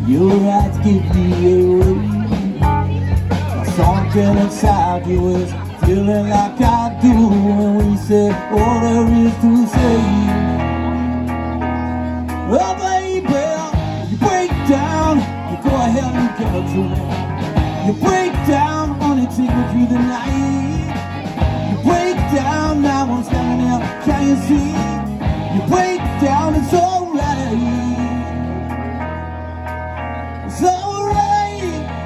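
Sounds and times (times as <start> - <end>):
bass: 0.0 - 32.0
drums: 0.0 - 32.0
keyboard: 0.0 - 32.0
lead guitar with bending notes: 0.0 - 32.0.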